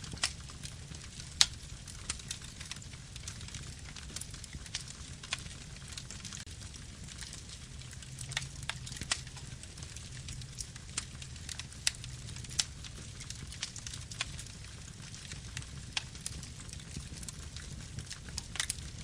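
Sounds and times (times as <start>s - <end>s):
campfire crackles and pops: 0.0s - 19.0s
low rumble of flames: 0.0s - 19.0s.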